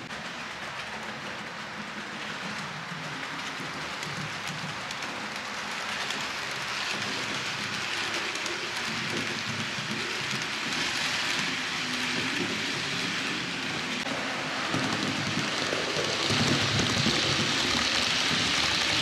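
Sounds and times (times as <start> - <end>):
model train wheels rattling: 0.0 - 19.0.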